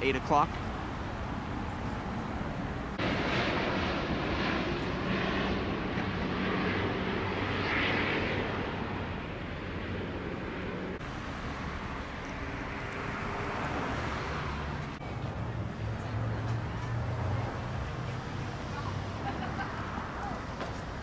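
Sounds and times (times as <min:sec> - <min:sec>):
jet airliner passing: 0:00.0 - 0:21.0.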